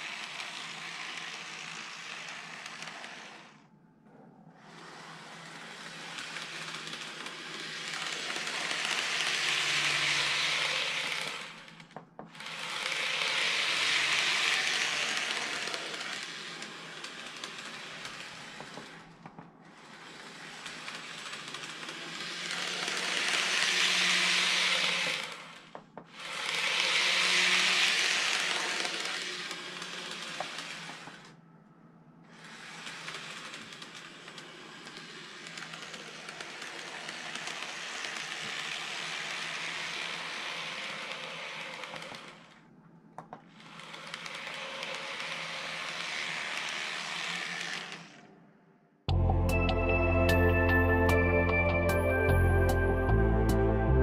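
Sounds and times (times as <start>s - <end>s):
model train motor and wheels: 0.0s - 31.4s, 32.2s - 48.4s.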